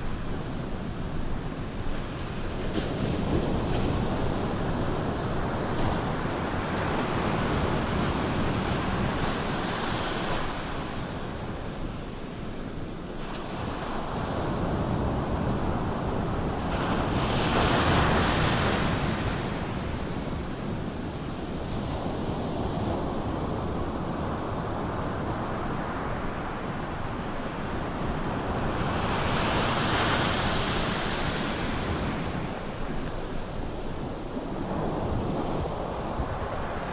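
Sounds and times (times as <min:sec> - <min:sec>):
ocean surf breaking on beach: 0:00.0 - 0:36.9.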